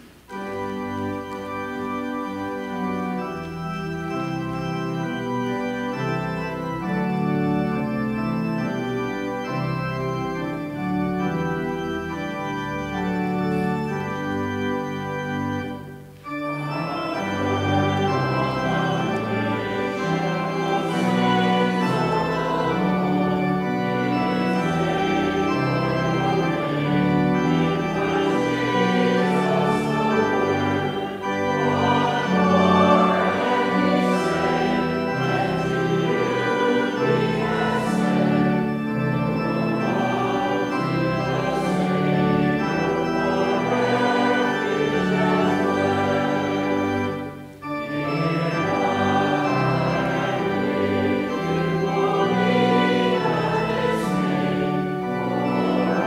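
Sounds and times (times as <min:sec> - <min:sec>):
congregation singing a hymn: 0:00.0 - 0:56.0
organ: 0:00.0 - 0:56.0.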